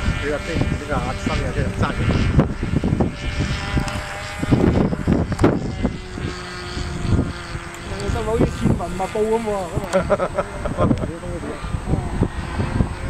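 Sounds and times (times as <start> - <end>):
low rumbling: 0.0 - 13.0
model airplane motor whining: 0.0 - 13.0.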